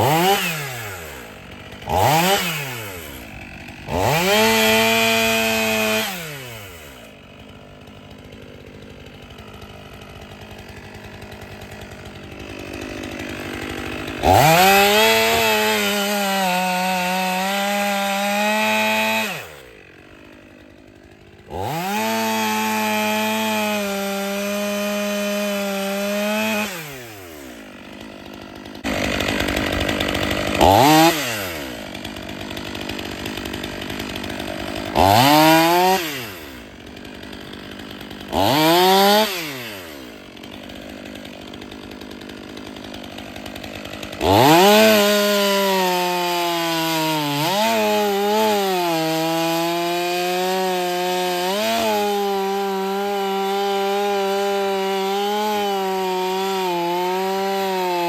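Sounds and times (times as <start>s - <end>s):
chainsaw revving and cutting wood: 0.0s - 58.0s.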